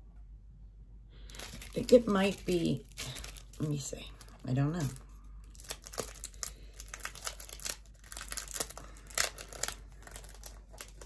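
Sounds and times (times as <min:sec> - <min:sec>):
paper rustling and crinkling: 0:01.3 - 0:11.0.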